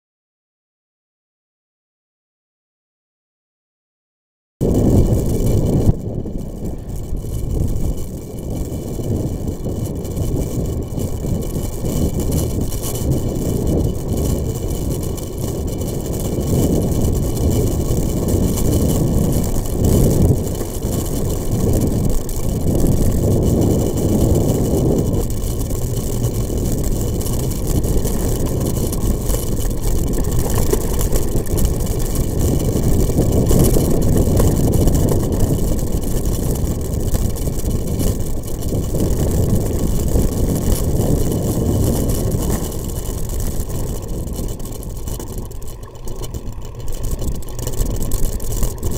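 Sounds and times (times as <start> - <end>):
vehicle engine rumbling: 4.6 - 48.9.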